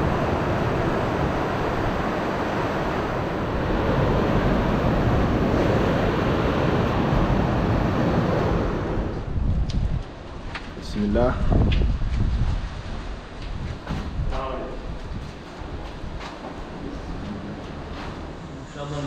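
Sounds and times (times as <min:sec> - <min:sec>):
wind on microphone: 0:00.0 - 0:18.6.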